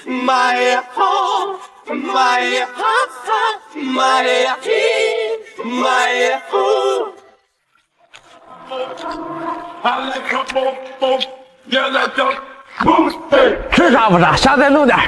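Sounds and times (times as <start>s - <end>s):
unaccompanied vocal singing: 0.0s - 7.5s, 8.2s - 13.8s.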